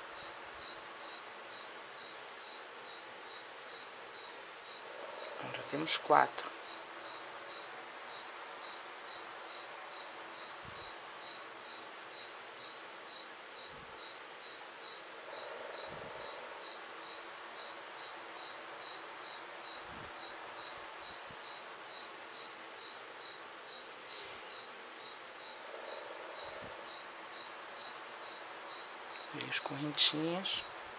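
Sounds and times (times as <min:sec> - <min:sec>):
cricket chirping: 0:00.0 - 0:30.9.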